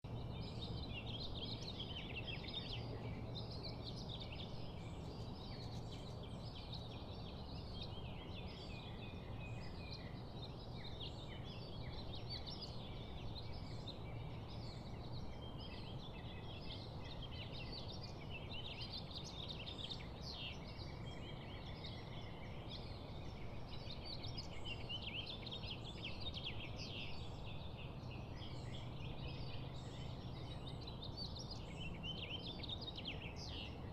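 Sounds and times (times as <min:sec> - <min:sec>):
many birds chirping: 0:00.0 - 0:33.9.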